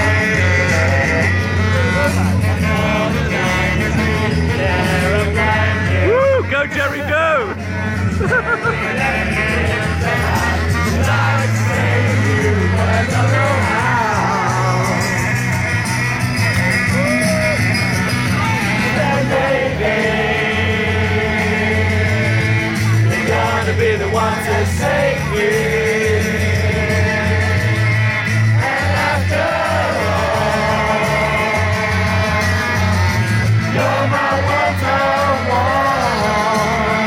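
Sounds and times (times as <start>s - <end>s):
crowd of men singing along: 0.0s - 6.5s, 7.6s - 37.0s
loud rock music: 0.0s - 37.0s.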